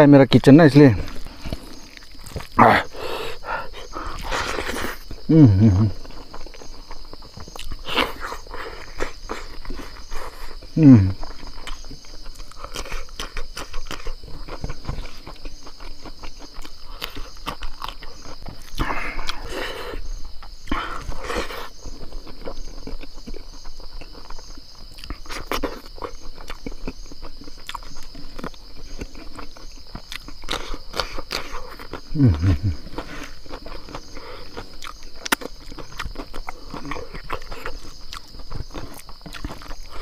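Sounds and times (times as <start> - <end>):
high insect drone: 0.0 - 40.0
chewing and biting: 1.0 - 40.0.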